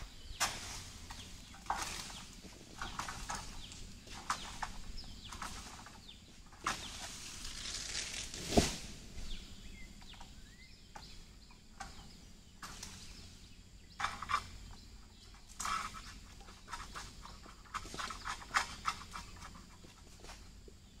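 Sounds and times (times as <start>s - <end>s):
fronds rustling: 0.0s - 21.0s.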